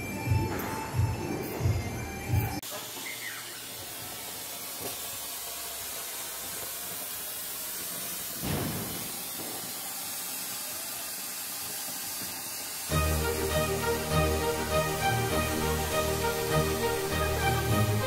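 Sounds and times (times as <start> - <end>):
firework fountain hissing: 2.6 - 18.0.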